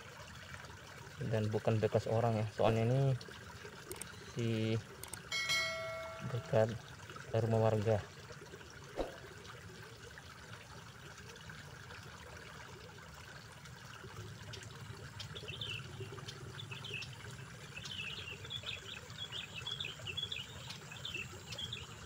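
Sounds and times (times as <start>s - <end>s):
outdoor background hiss: 0.4s - 22.0s.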